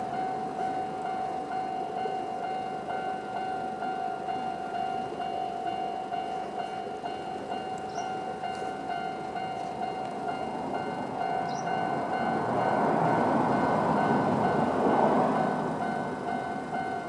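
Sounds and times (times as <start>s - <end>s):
electric train rumbling: 0.0s - 17.0s
level-crossing warning bell dinging: 0.0s - 17.0s.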